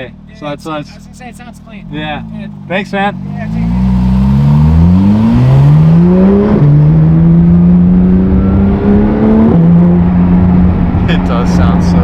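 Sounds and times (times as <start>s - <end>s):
car engine accelerating hard: 1.1s - 12.0s.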